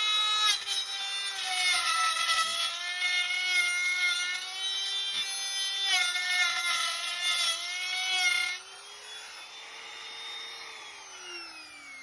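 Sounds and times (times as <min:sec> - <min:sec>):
electric router whining: 0:00.0 - 0:12.0.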